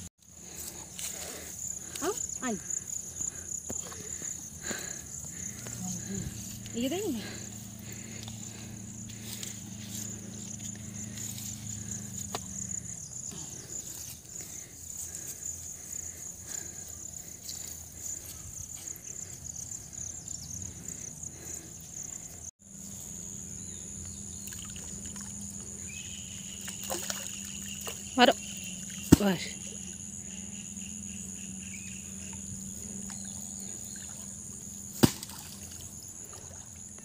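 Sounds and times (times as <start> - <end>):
insects chirring: 0.0 - 37.0.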